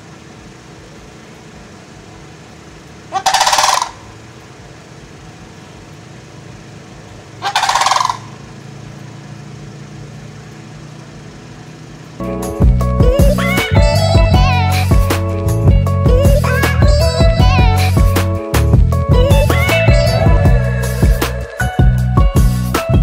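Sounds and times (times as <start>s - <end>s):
crane rattling call: 0.0s - 23.0s
low steady hum: 0.0s - 23.0s.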